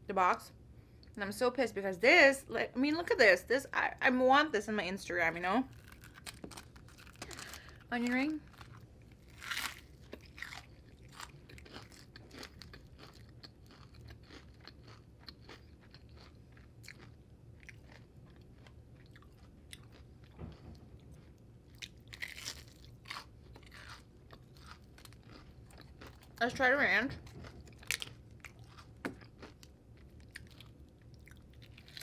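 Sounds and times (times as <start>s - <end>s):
chewing crunchy onion ring: 5.7s - 32.0s.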